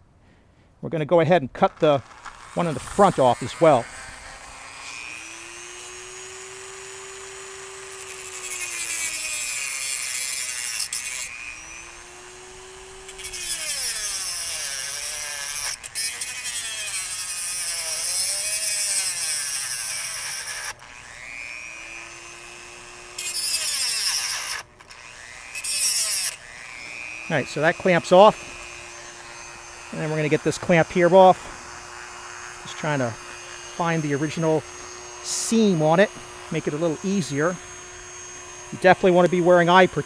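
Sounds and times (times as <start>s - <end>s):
harsh grinding on metal: 1.0s - 40.0s
rotary tool motor whining: 1.5s - 40.0s.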